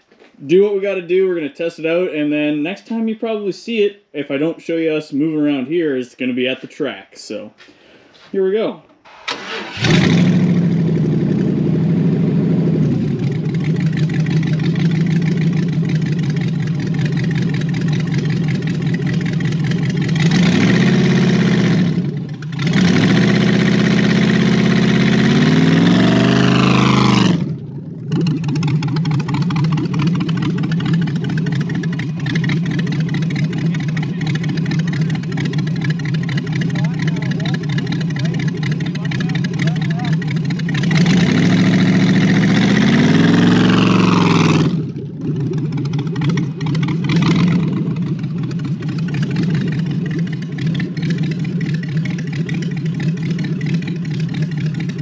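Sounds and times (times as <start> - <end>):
car engine revving and idling: 9.4 - 55.0.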